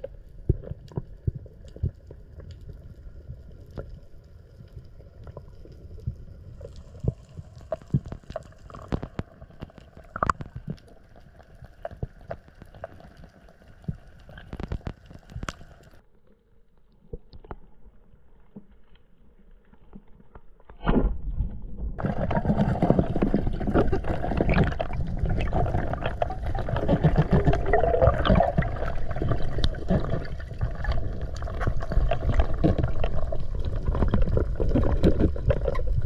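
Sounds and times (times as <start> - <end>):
muffled underwater water rumble: 0.0 - 16.0, 20.8 - 36.0.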